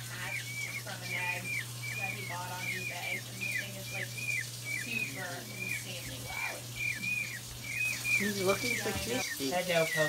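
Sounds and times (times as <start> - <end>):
peachick peeping: 0.0 - 10.0.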